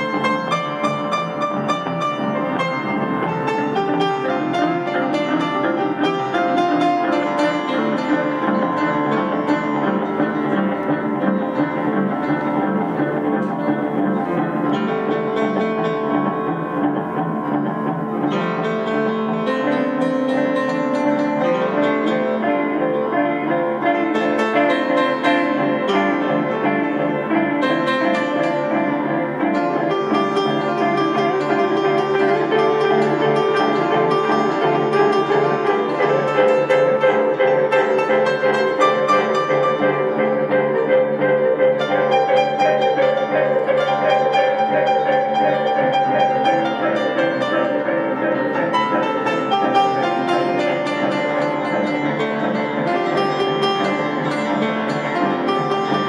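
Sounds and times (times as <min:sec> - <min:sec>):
guitar: 0:00.0 - 0:56.0
upright piano: 0:00.0 - 0:56.0.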